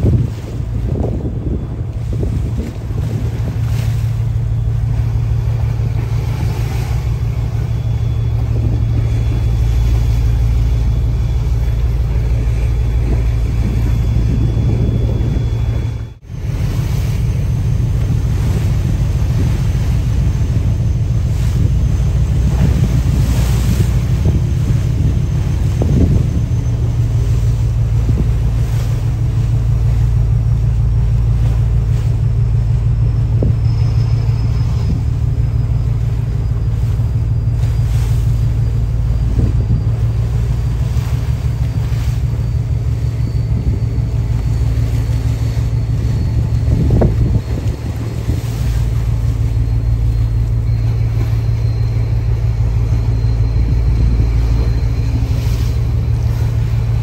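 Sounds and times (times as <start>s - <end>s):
boat engine droning: 0.0s - 57.0s
choppy sea wash: 0.0s - 57.0s
wind buffeting microphone: 0.0s - 57.0s.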